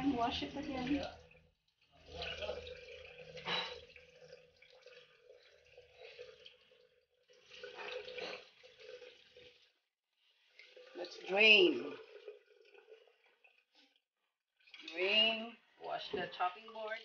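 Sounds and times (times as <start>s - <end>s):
water splashing: 0.0s - 9.7s, 10.3s - 14.0s, 14.6s - 17.0s
tap water running into colander: 0.0s - 14.0s, 14.6s - 17.0s.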